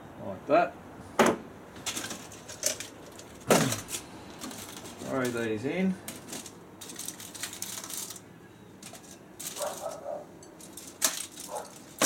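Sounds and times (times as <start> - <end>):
aluminium foil crinkling: 1.8 - 12.0.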